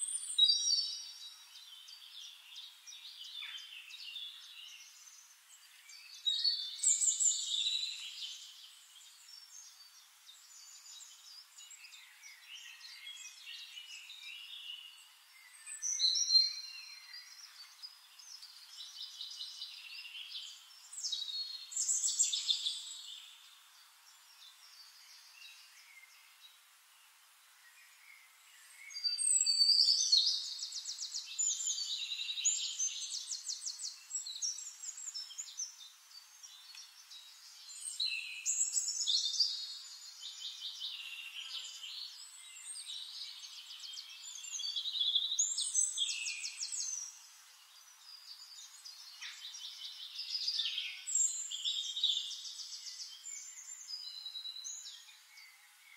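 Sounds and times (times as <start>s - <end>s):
songbirds trilled chirping: 0.0s - 55.9s.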